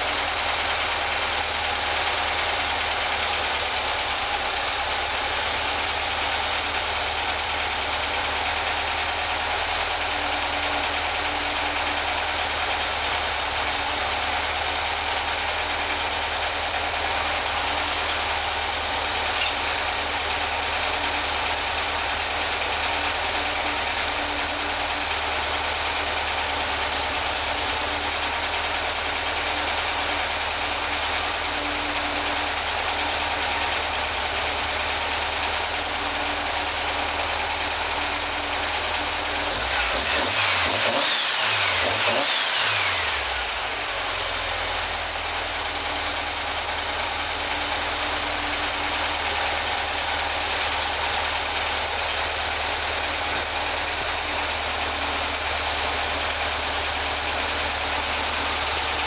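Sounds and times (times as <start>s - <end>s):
car engine idling: 0.0s - 59.0s
engine revving: 0.0s - 59.0s.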